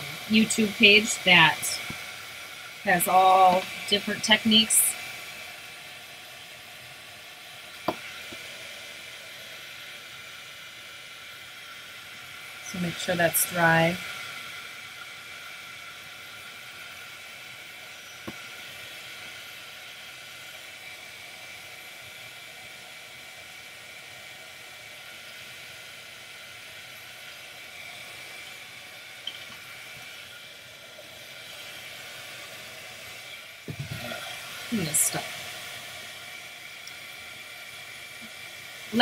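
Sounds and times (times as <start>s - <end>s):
heat gun blowing: 0.0s - 39.0s.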